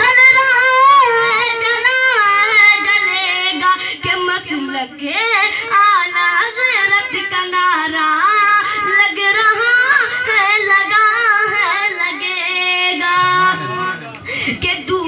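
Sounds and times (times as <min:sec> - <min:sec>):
boy singing: 0:00.0 - 0:15.0.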